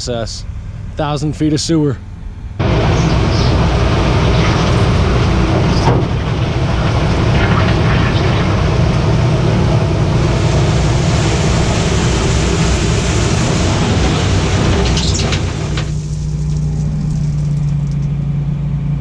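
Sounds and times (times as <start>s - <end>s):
heavy machinery engine running: 2.3s - 19.0s.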